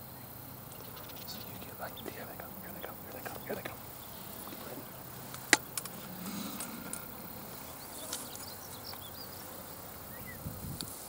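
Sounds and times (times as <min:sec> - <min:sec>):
faint background hum: 0:00.0 - 0:11.0
insects buzzing: 0:00.0 - 0:11.0.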